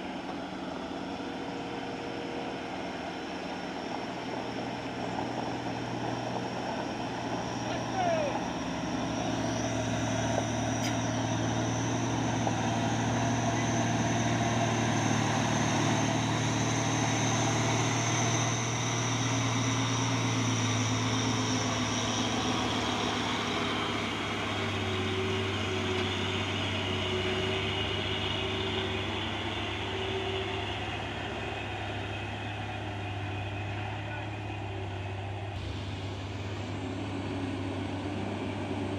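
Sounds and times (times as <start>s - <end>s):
heavy truck engine running: 0.0s - 38.9s
high whine: 0.0s - 38.9s.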